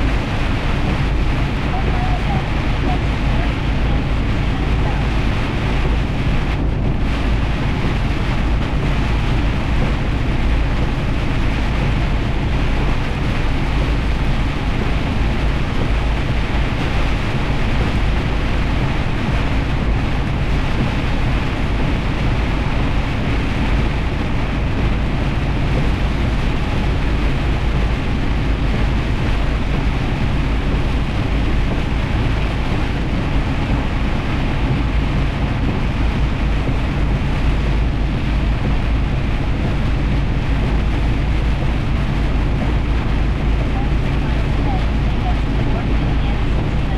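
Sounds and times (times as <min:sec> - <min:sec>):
heavy rain: 0:00.0 - 0:46.9
truck engine and road drone: 0:00.0 - 0:46.9.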